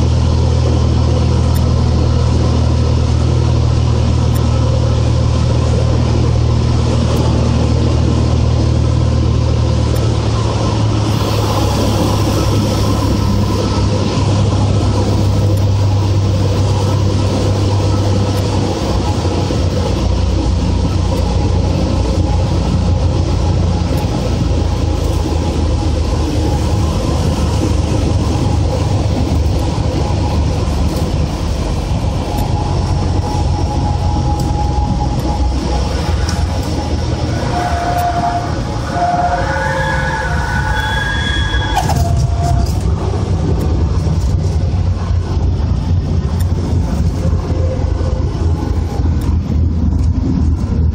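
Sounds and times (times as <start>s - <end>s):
propeller engine drone in cabin: 0.0s - 50.9s
wind noise: 0.0s - 50.9s.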